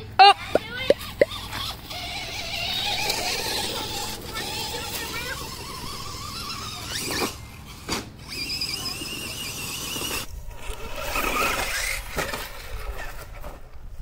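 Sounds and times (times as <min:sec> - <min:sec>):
toy truck motor whining: 0:00.0 - 0:13.6.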